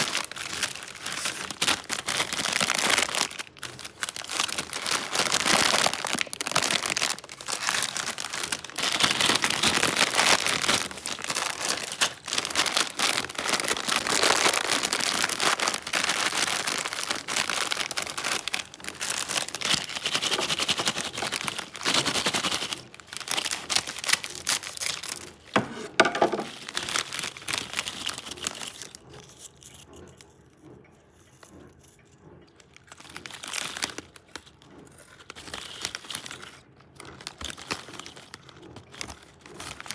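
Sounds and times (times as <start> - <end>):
foil chip bag crinkling: 0.0 - 30.0, 32.6 - 39.9.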